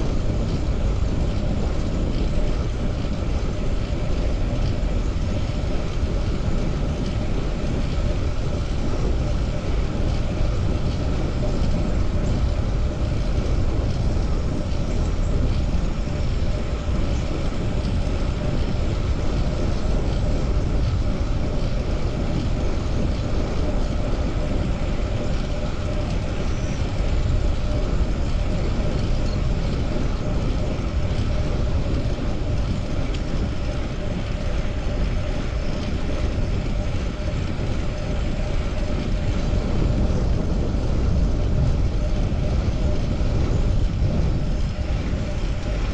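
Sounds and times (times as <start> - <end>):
bicycle tyres on road: 0.0 - 45.9
faint steady hum: 0.0 - 45.9
wind rush on microphone: 0.0 - 45.9.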